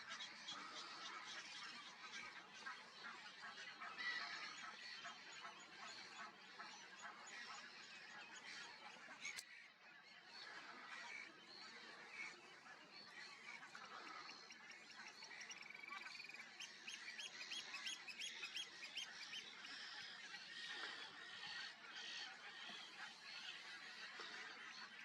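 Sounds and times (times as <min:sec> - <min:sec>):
faint wetland bird chorus: 0:00.0 - 0:25.0.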